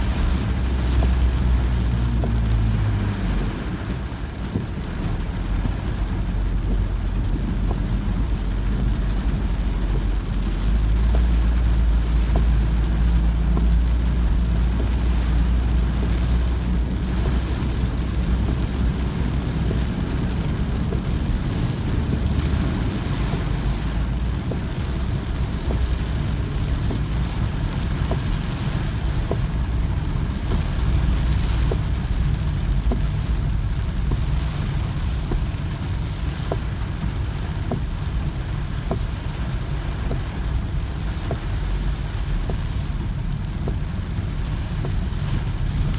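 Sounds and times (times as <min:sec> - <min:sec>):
car engine and tyres rumbling: 0:00.0 - 0:45.9
rain and water noise: 0:00.0 - 0:45.9.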